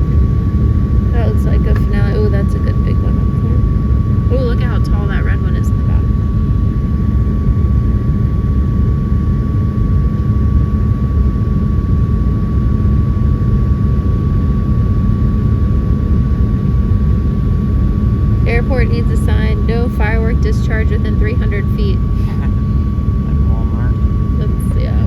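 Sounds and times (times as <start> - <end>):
engine and airflow rumble: 0.0 - 25.0
thin steady whine: 0.0 - 25.0.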